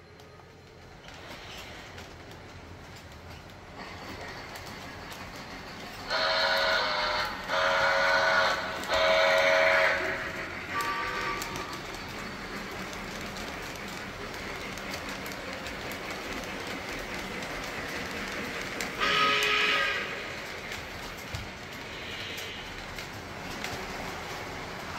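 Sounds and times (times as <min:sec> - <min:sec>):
train running rumble: 0:00.0 - 0:24.9.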